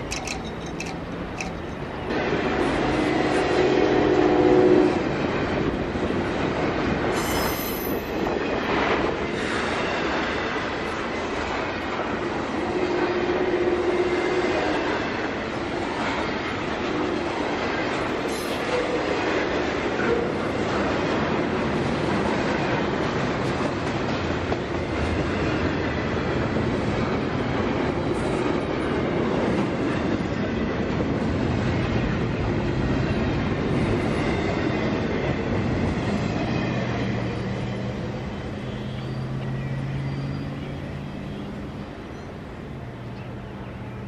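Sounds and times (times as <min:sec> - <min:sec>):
train cars rumbling on rails: 0:00.0 - 0:44.0.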